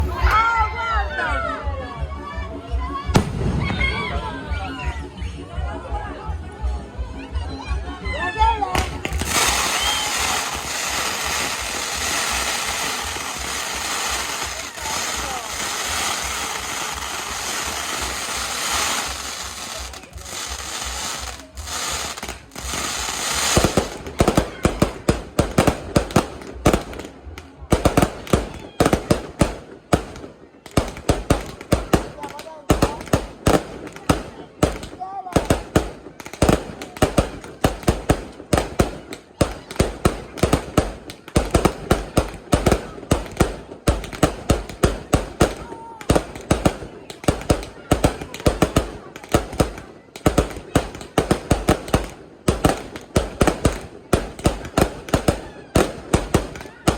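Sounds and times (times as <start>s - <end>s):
fireworks sharp bangs: 3.2s - 4.7s, 8.8s - 56.9s
fireworks crackling hiss: 8.8s - 56.9s.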